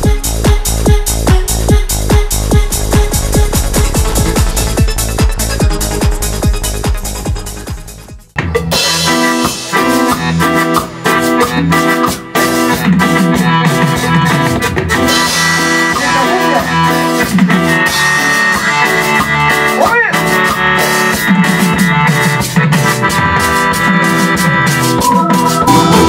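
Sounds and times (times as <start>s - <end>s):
bass: 0.0s - 26.0s
drum kit and percussion beat: 0.0s - 26.0s
keyboard melody: 0.0s - 26.0s.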